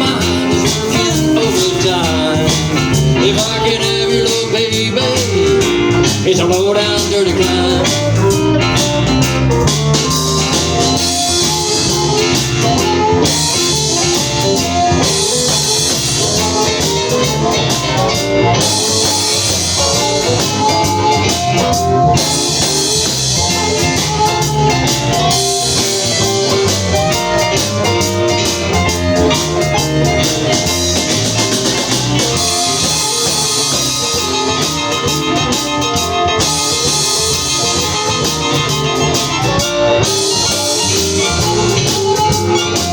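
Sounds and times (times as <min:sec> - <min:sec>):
blues band instrumental: 0:00.0 - 0:42.9
drum kit: 0:00.0 - 0:42.9
electric guitar: 0:00.0 - 0:42.9.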